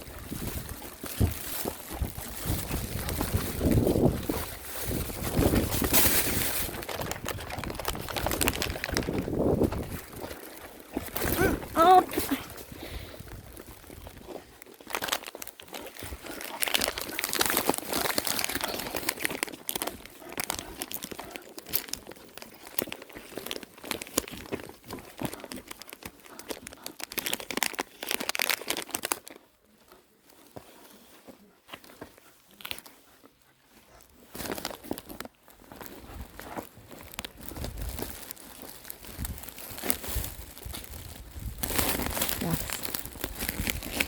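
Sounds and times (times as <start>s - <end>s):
crinkling and crackling: 0.0s - 44.0s.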